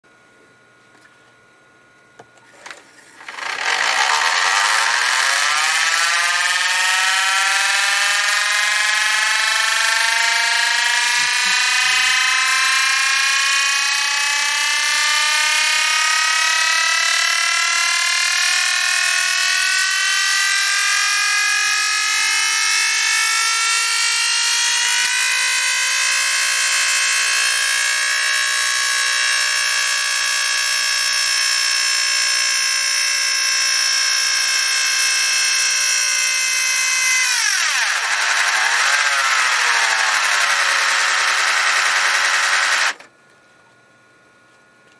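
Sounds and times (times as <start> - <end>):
vcr rewinding tape whine: 2.4 - 43.1.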